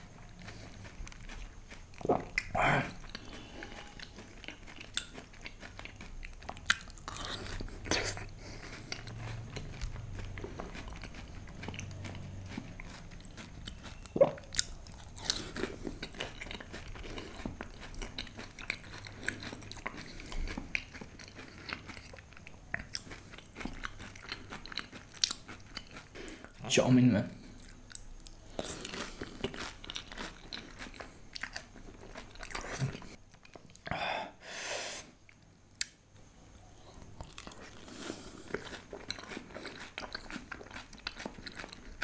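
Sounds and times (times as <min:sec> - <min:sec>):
crunchy food being chewed: 0:00.0 - 0:26.8, 0:27.4 - 0:34.0, 0:35.2 - 0:42.0.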